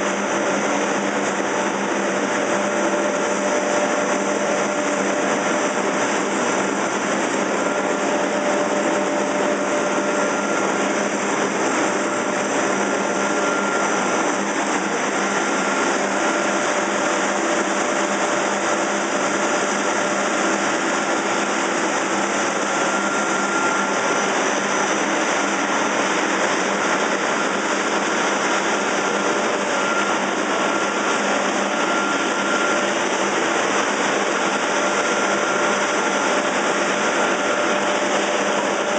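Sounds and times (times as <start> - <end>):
machinery whirring and humming: 0.0 - 38.9.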